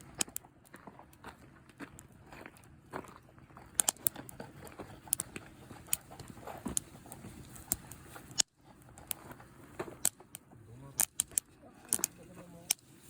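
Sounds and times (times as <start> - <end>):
campfire crackling and popping: 0.0 - 2.9, 3.7 - 12.9.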